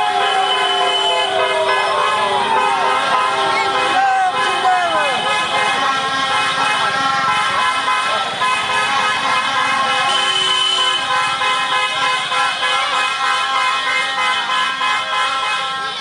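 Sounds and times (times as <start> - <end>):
motorcycle horns honking: 0.0 - 16.0.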